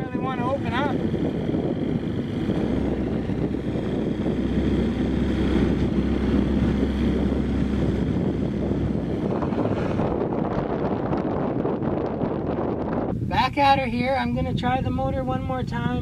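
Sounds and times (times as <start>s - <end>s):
outboard motor running: 0.0s - 14.4s
wind buffeting microphone: 0.0s - 16.0s.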